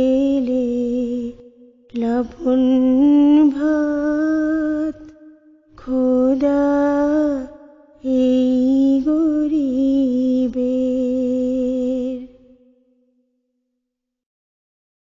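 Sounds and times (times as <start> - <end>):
woman singing devotional melody: 0.0 - 13.2.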